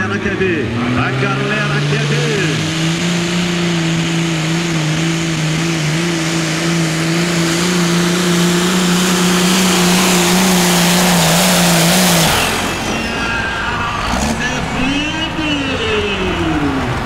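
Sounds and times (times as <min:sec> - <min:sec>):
tractor engine at high revs: 0:00.0 - 0:17.0.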